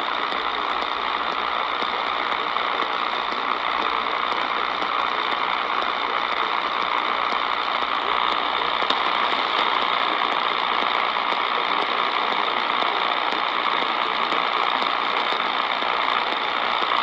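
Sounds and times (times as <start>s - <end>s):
faint clicks and crackle: 0.0s - 17.0s
radio static hiss: 0.0s - 17.0s.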